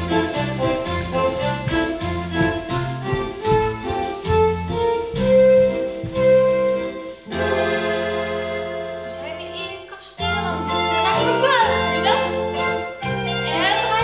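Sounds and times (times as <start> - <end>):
bouncy instrumental music: 0.0 - 14.0.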